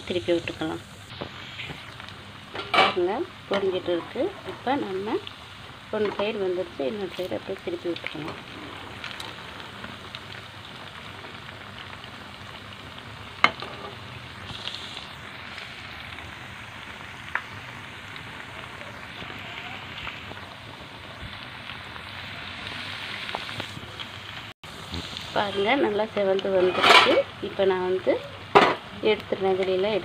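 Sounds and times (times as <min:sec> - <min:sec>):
food deep-frying in hot oil: 0:00.0 - 0:30.0.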